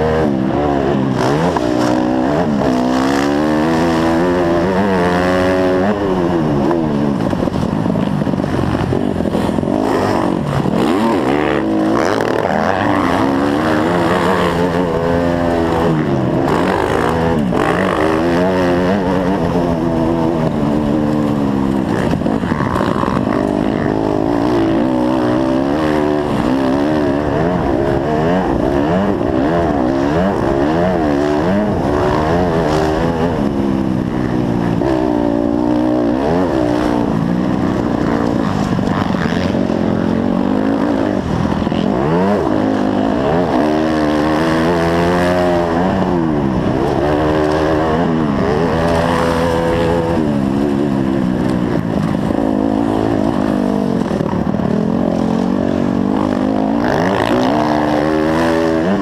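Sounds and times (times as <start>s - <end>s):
dirt bike engine revving: 0.0s - 59.0s
steady rushing noise: 0.0s - 59.0s.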